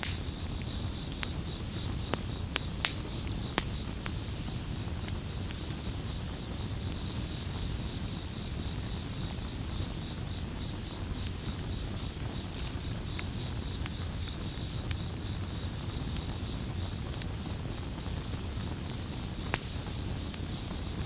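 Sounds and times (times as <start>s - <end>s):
campfire crackling and popping: 0.0s - 21.0s
crickets trilling: 0.0s - 21.0s.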